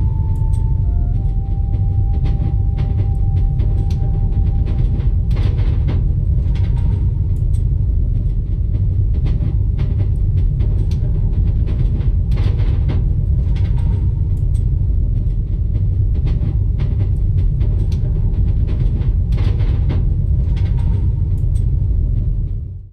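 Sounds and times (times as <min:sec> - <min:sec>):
rail clicks and knocks: 0:00.0 - 0:22.7
train rumbling on rails: 0:00.0 - 0:22.9.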